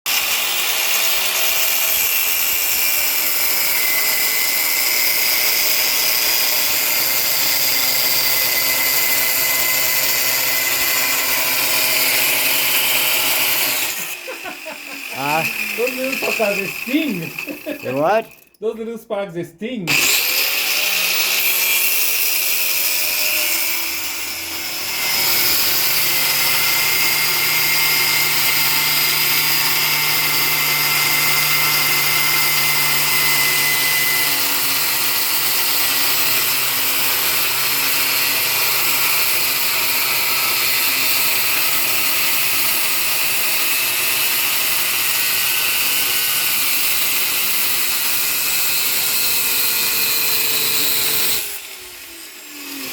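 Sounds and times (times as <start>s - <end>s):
chop saw cutting metal: 0.1s - 18.6s, 19.9s - 52.9s.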